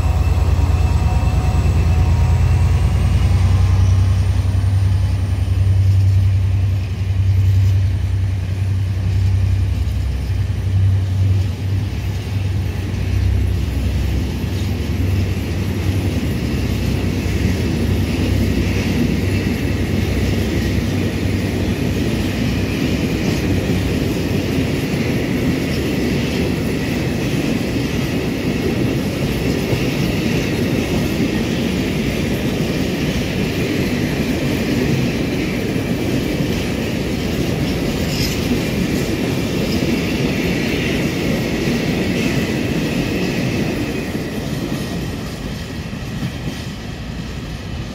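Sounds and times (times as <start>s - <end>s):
low diesel locomotive drone: 0.0s - 47.9s
freight wagons clattering over rails: 4.1s - 47.0s.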